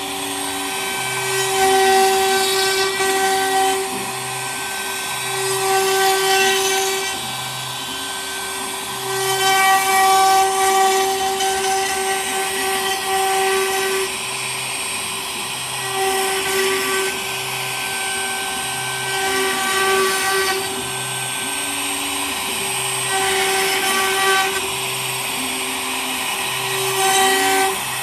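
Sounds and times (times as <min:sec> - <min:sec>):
engraving machine whine: 0:00.0 - 0:28.0.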